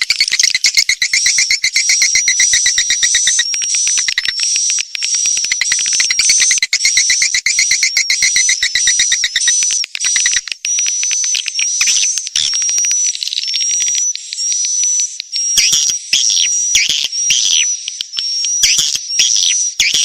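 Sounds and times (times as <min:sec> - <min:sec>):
swiftlet chirps and clicking: 0:00.0 - 0:20.0.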